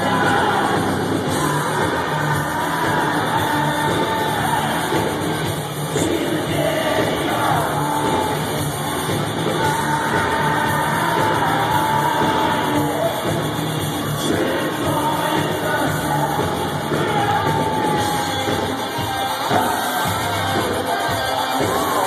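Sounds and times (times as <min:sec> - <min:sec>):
heavy metal band playing: 0:00.0 - 0:22.0
singer's vocals: 0:00.0 - 0:22.0.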